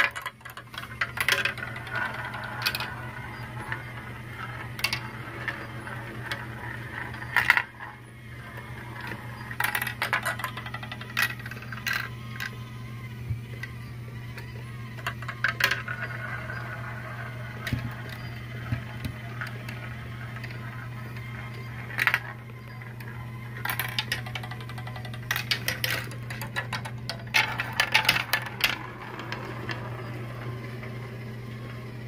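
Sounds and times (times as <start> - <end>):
marbles rolling through plastic track: 0.0 - 32.0
steady low hum: 0.0 - 32.0.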